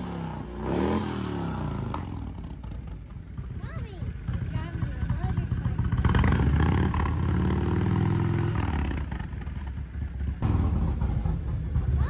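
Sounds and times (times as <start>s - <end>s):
motorcycle engine passing by: 0.0s - 12.0s.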